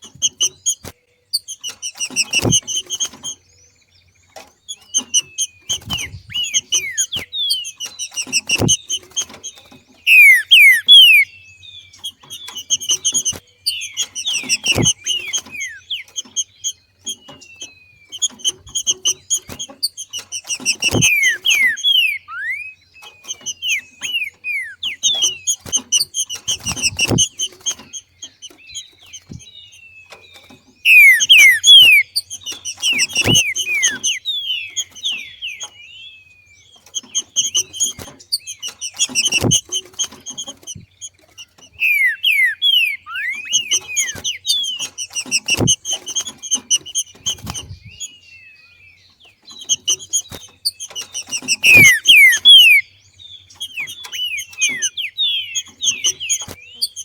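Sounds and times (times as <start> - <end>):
bird chattering: 0.0 - 3.4, 4.3 - 57.0.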